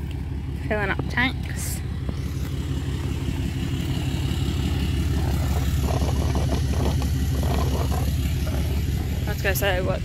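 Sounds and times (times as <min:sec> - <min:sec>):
large vehicle engine idling: 0:00.0 - 0:10.0.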